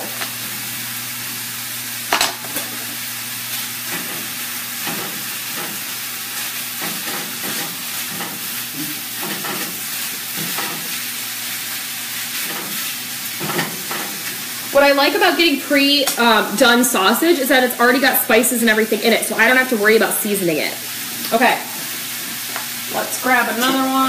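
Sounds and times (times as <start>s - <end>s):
sausage sizzling in a pan: 0.0s - 24.0s.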